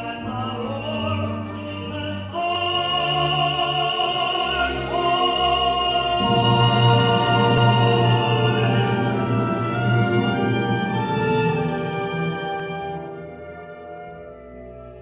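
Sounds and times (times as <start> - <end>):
operatic singing: 0.0 - 13.5
symphony orchestra playing: 0.0 - 15.0.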